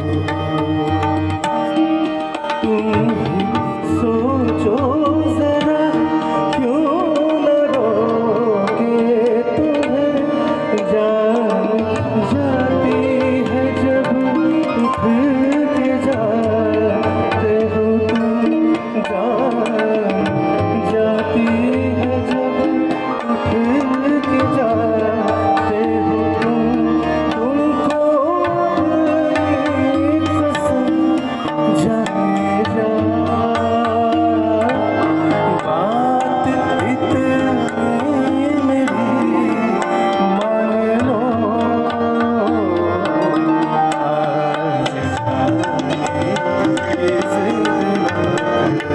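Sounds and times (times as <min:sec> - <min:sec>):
person singing: 0:00.0 - 0:48.9
tabla rhythm: 0:00.0 - 0:48.9.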